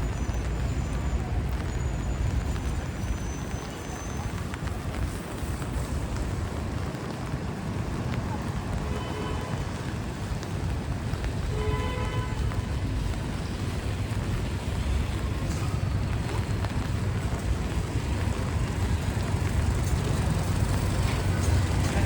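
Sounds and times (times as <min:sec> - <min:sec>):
rain hiss: 0:00.0 - 0:22.0
traffic rumble: 0:00.0 - 0:22.0
wet tyres on road: 0:00.0 - 0:22.0.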